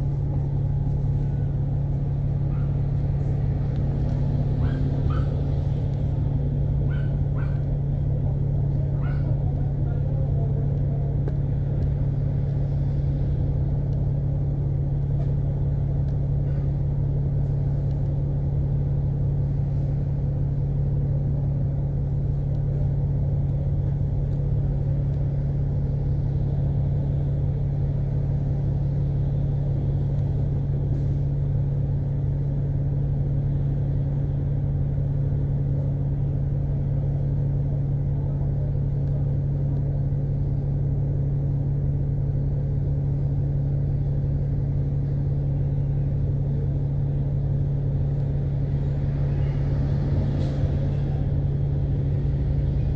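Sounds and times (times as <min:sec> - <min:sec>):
bus engine humming: 0:00.0 - 0:52.9.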